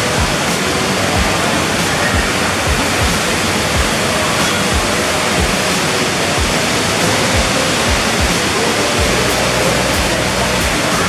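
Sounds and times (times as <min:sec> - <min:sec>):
background music with low beat: 0:00.0 - 0:11.0
indoor waterfall rushing: 0:00.0 - 0:11.0.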